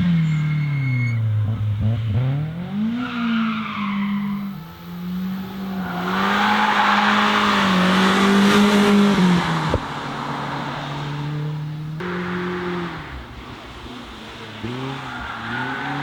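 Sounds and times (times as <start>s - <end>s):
car engine at high revs passing: 0.0s - 16.0s.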